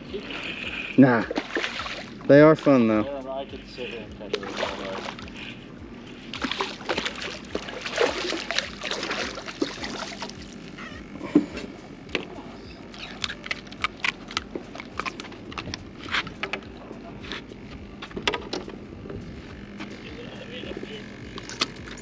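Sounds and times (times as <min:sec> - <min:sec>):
small splashes: 0:00.0 - 0:22.0
water lapping and sloshing: 0:00.0 - 0:22.0.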